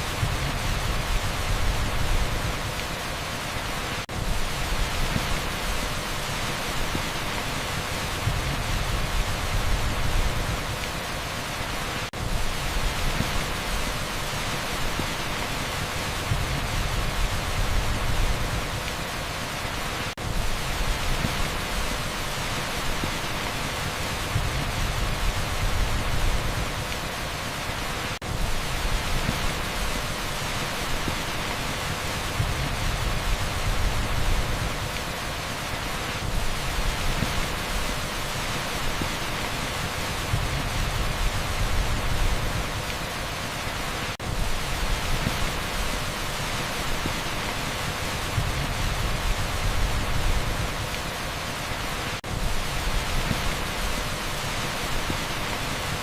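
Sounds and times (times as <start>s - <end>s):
heavy rain on asphalt: 0.0s - 56.0s.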